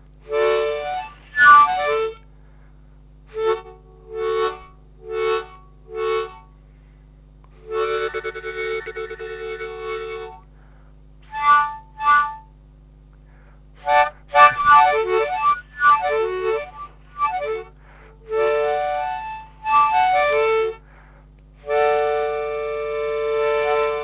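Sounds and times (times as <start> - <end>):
harmonica playing: 0.2 - 2.2, 3.3 - 6.5, 7.6 - 10.5, 11.2 - 12.5, 13.8 - 24.0.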